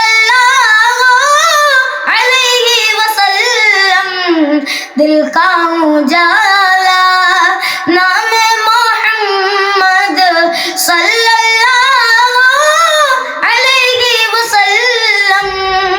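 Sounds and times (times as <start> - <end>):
child singing in high voice: 0.0 - 15.9.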